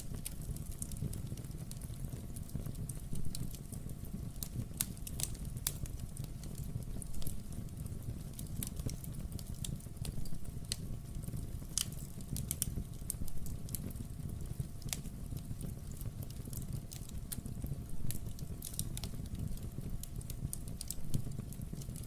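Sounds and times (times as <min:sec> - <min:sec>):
burning logs crackling: 0:00.0 - 0:22.0
low rumble of flames: 0:00.0 - 0:22.0.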